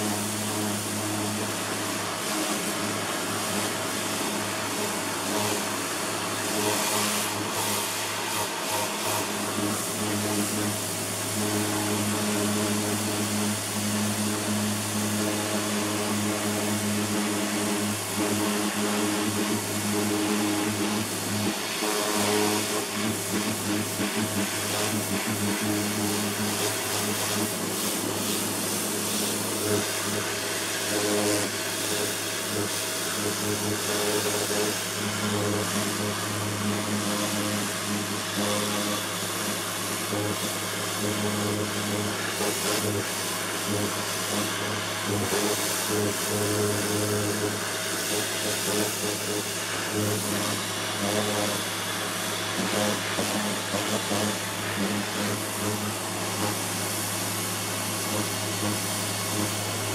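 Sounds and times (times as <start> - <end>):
high-pressure water jet hissing: 0.0 - 59.9
pressure washer motor hum: 0.0 - 59.9.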